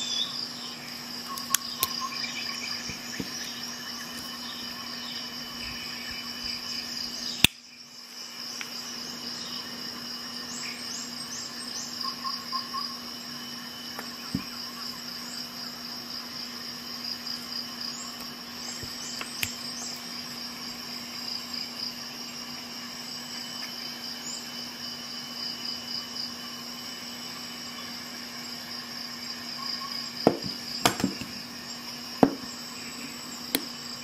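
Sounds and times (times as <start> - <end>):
cricket trilling: 0.0 - 34.0.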